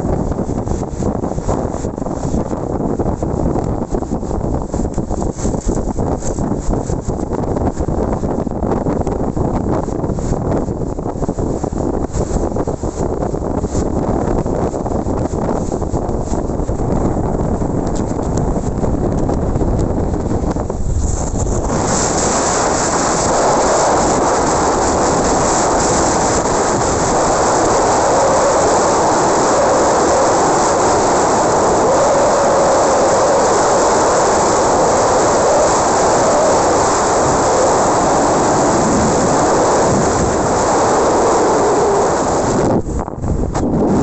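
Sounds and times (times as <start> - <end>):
strong wind on microphone: 0.0 - 44.0.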